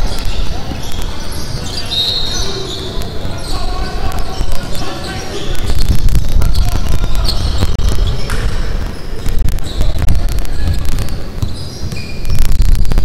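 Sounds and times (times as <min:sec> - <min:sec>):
sneakers squeaking: 0:00.0 - 0:13.0.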